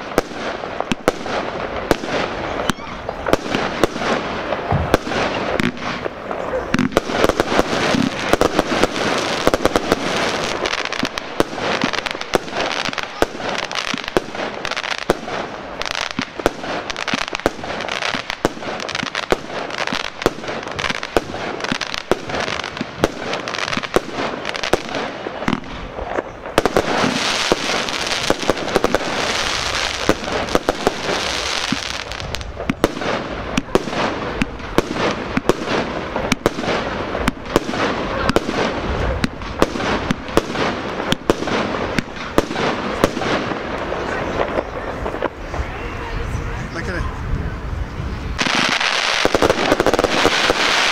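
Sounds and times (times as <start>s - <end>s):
fireworks bangs and pops: 0.0s - 50.9s
fireworks crackling: 0.0s - 50.9s.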